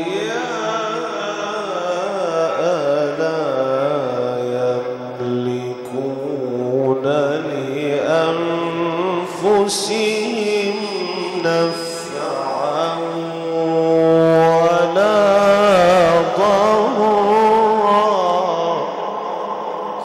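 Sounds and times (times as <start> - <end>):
man reciting melodically: 0.0 - 19.1.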